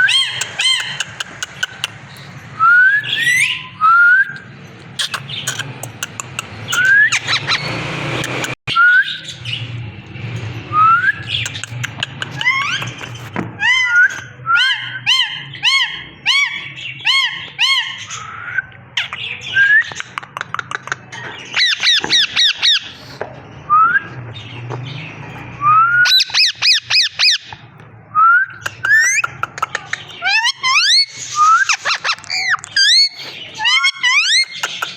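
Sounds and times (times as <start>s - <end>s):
parrot squawking: 0.0s - 9.6s, 11.1s - 23.2s, 26.0s - 27.5s, 28.5s - 34.9s.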